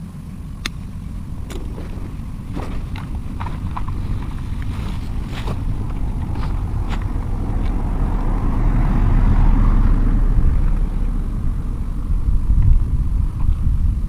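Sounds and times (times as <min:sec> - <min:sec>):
vehicle engine running: 0:00.0 - 0:14.0
wind rumble on microphone: 0:00.0 - 0:14.0.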